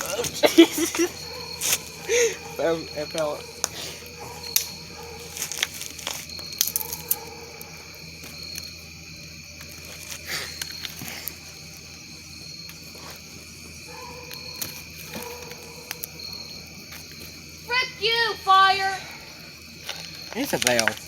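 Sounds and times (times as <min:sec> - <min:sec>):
campfire crackling: 0:00.0 - 0:21.0
crickets trilling: 0:00.0 - 0:21.0.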